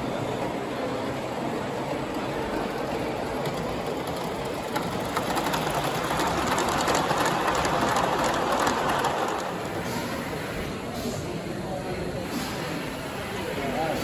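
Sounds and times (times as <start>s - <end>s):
model steam train rattling on track: 0.0s - 14.0s.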